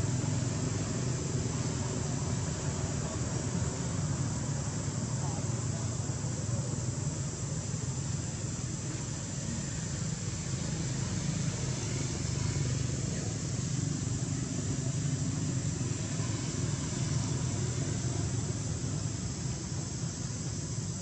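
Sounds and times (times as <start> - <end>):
low rumble with hiss: 0.0 - 21.0.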